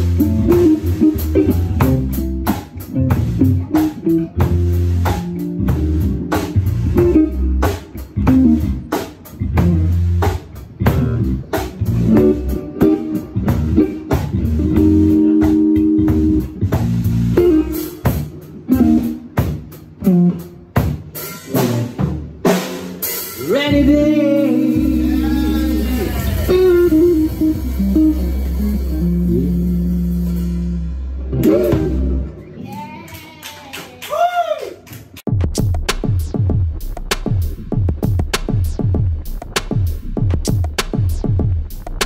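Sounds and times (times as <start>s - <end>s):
drum kit steady beat: 0.0s - 33.4s, 35.2s - 42.0s
bass guitar: 0.0s - 33.8s, 35.3s - 42.0s
electric guitar: 0.0s - 34.1s.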